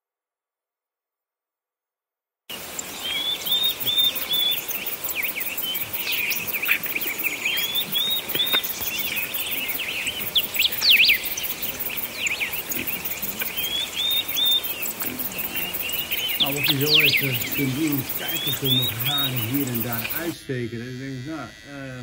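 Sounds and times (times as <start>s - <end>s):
birds chirping: 2.5s - 22.0s.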